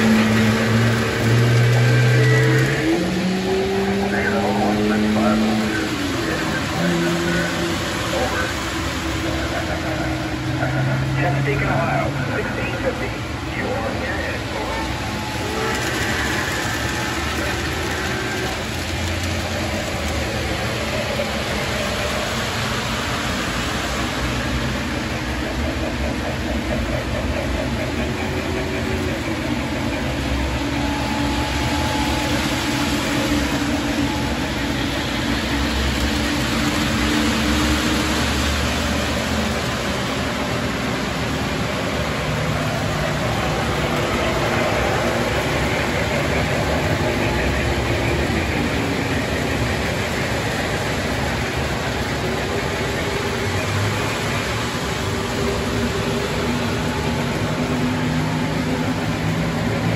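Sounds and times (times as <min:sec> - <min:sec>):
model train motors humming: 0:00.0 - 0:59.9
model train wheels rumbling: 0:00.0 - 0:59.9.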